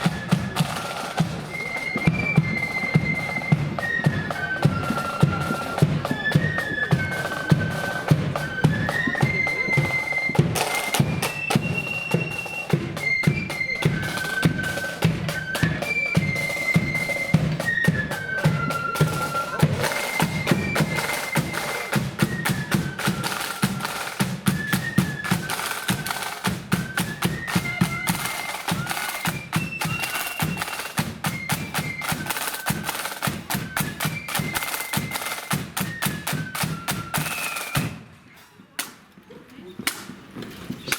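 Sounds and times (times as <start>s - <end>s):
snare drum rolls: 0.0s - 38.0s
high flute melody: 0.0s - 38.2s.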